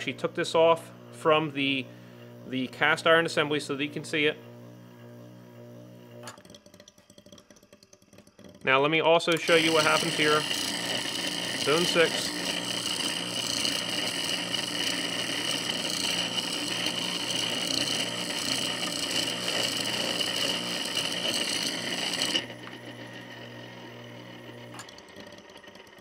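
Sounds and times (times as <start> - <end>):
pump running rough with whine: 0.0 - 26.0.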